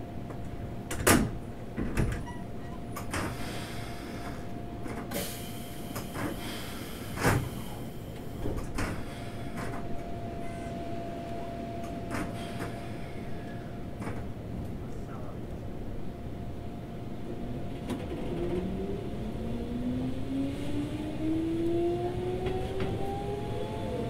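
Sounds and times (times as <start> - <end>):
train hum: 0.0 - 24.0.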